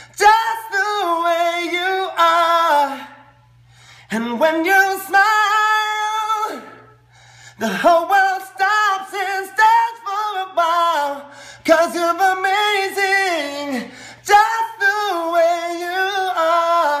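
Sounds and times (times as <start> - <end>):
man singing unaccompanied: 0.1 - 3.4, 4.1 - 6.9, 7.6 - 17.0.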